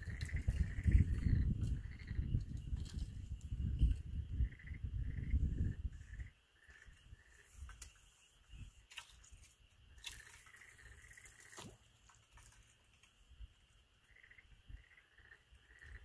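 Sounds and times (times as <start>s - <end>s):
chorus of night-calling animals: 0.0s - 16.0s.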